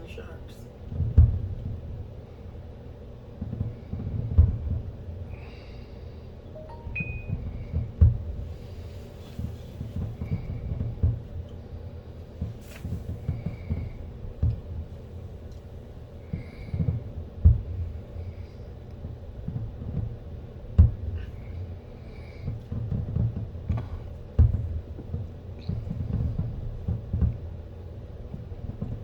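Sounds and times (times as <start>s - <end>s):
distant fireworks booming: 0.0s - 29.0s.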